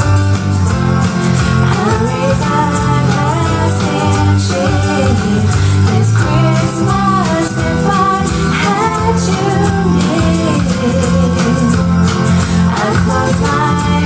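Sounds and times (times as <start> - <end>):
song with singing over a beat: 0.0 - 14.0.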